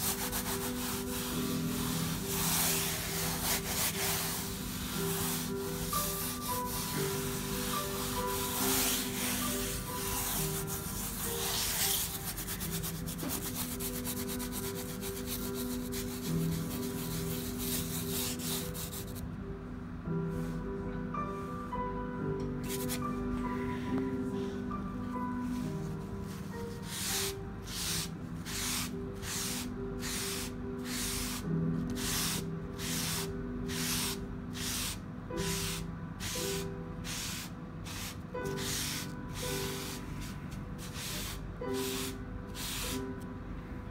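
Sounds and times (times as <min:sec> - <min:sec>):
fingertips rubbing paper: 0:00.0 - 0:19.2, 0:26.3 - 0:36.4, 0:37.1 - 0:43.0
soft sustained music: 0:00.0 - 0:43.9.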